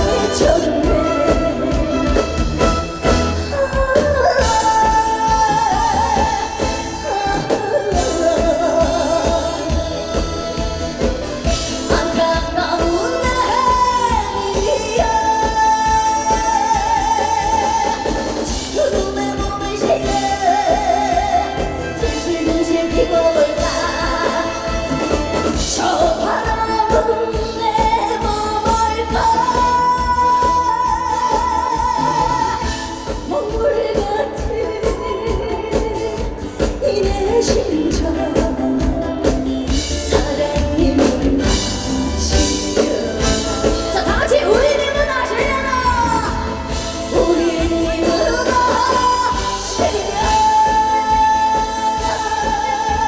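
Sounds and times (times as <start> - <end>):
musical accompaniment with steady beat: 0.0 - 53.0
woman singing: 0.0 - 53.0.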